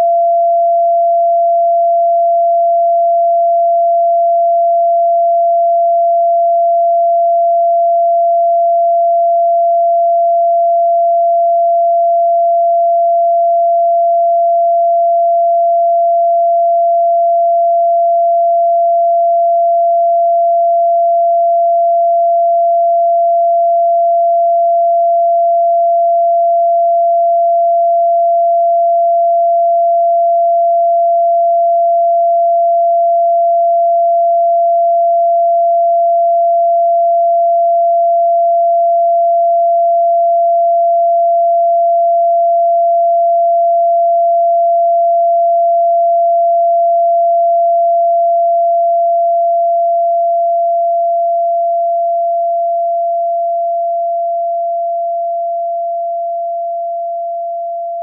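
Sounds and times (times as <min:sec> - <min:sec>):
electronic sine tone: 0:00.0 - 0:58.0.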